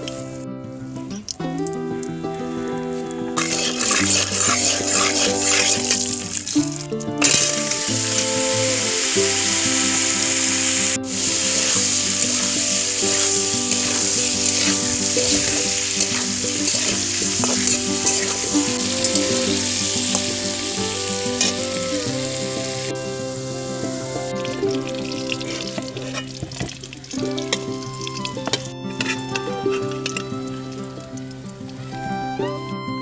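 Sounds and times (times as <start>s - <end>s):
background music: 0.0s - 33.0s
chicken sizzling in oil: 3.4s - 32.0s.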